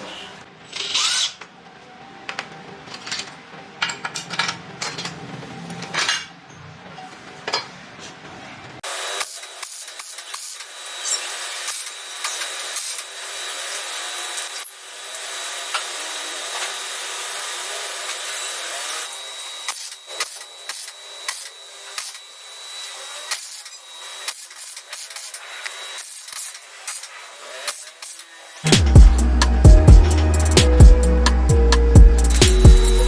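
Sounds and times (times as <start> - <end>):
hand work on metal parts: 0.0 - 1.6, 2.2 - 33.0.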